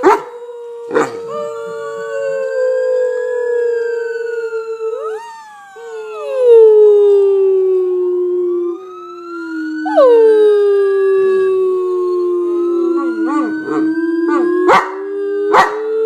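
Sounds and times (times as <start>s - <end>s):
dog howling: 0.0s - 15.9s.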